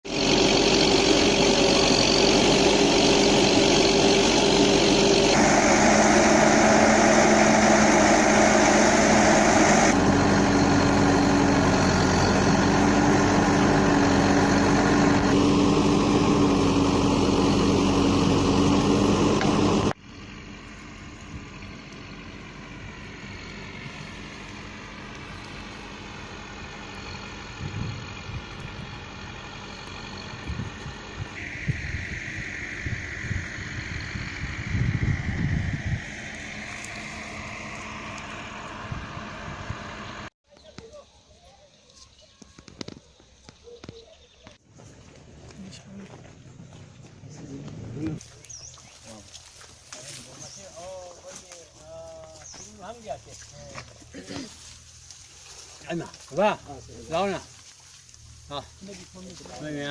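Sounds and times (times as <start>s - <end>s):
construction machinery engines: 0.0s - 59.9s
quiet outdoor background: 0.0s - 59.9s.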